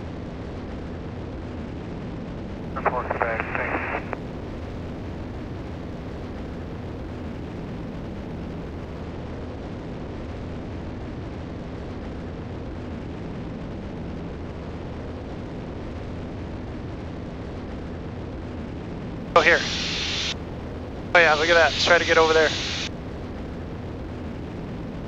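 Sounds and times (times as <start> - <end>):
aircraft engines droning in cabin: 0.0 - 25.0.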